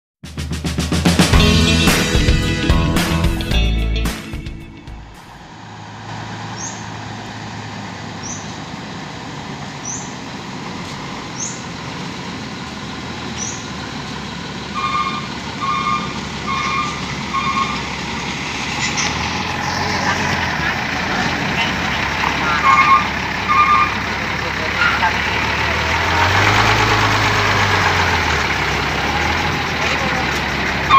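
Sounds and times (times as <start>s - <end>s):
truck diesel engine running: 0.3s - 30.9s.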